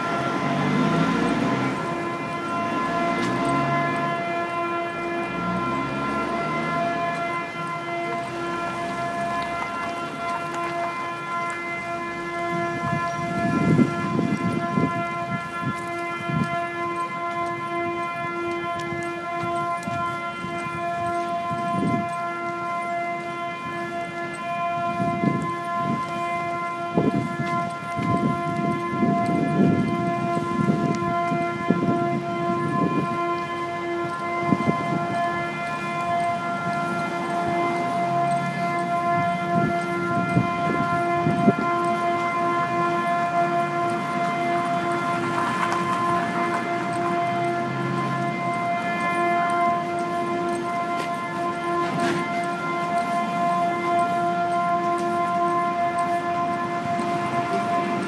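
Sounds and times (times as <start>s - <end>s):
horn-like drone: 0.0s - 58.0s.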